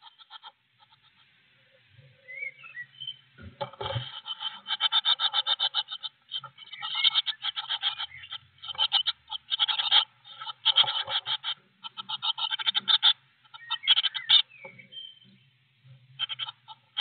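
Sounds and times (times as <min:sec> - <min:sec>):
bird chick begging calls: 0:00.0 - 0:01.3, 0:02.3 - 0:15.4, 0:16.2 - 0:17.0.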